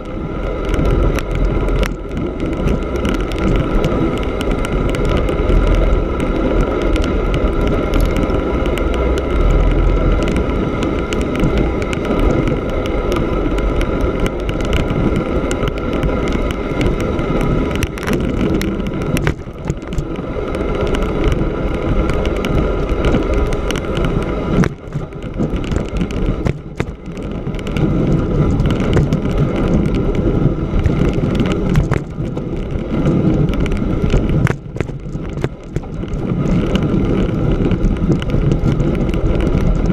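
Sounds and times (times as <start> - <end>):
bicycle tyres rolling on snow: 0.0 - 39.9
bike rattling clicks: 0.0 - 39.9
wind rumble on microphone: 0.0 - 39.9.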